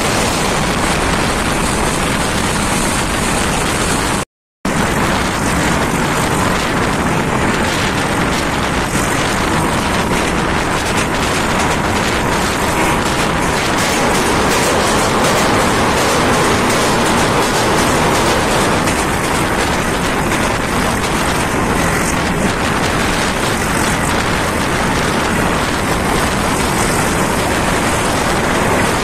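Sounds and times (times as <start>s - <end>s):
rush of passing air: 0.0s - 29.0s
train wheels on rails: 0.0s - 29.0s.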